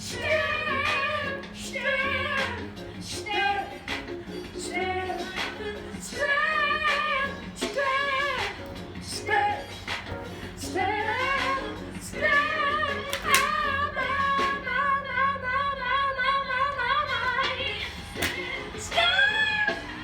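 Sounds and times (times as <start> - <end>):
music: 0.0 - 20.0
woman singing without words: 0.0 - 20.0.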